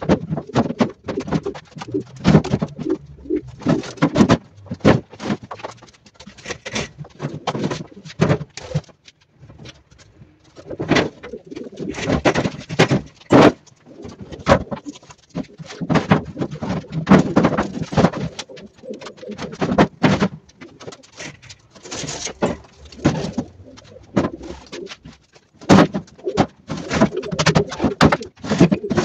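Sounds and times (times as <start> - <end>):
pigeons cooing: 0.0 - 5.6, 10.2 - 29.0
cardboard boxes knocking and scraping: 0.0 - 9.9, 10.6 - 29.0.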